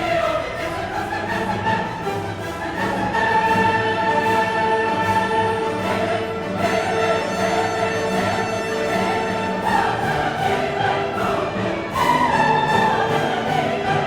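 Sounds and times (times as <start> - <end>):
orchestral and choral music: 0.0 - 14.0.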